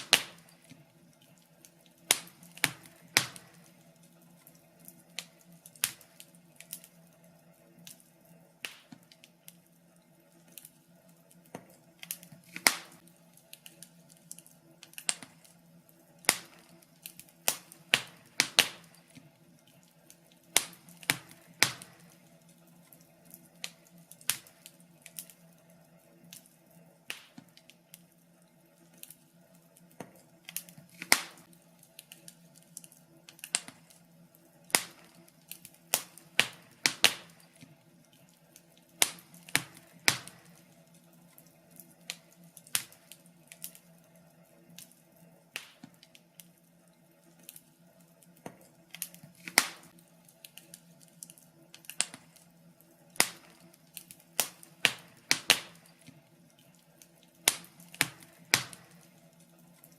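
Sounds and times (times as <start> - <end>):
faint steady hum: 0.0 - 59.9
fire crackling and popping: 0.0 - 59.9.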